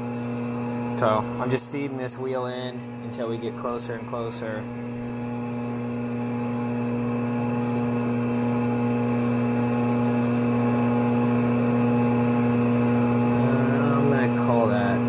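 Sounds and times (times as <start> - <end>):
grinding wheel motor hum: 0.0 - 15.0.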